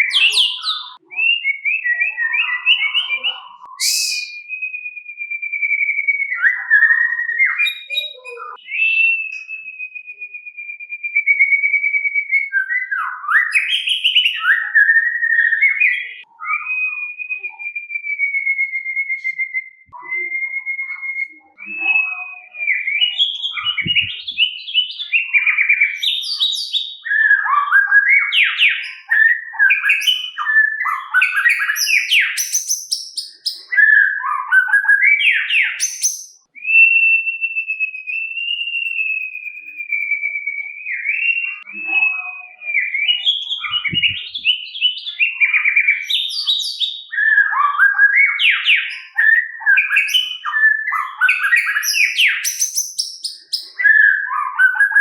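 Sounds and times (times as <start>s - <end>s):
bird whistling and warbling: 0.0s - 55.0s.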